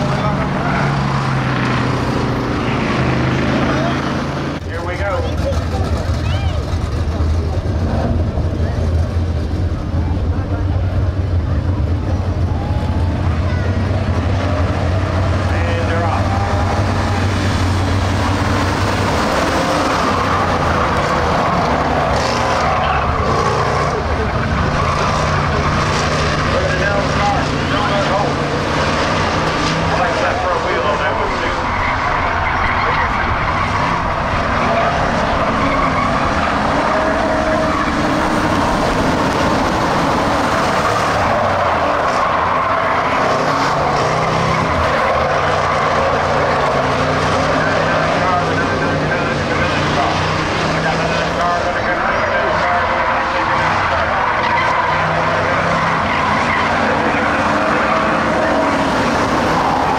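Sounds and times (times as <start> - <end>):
race car engines accelerating: 0.0 - 59.9.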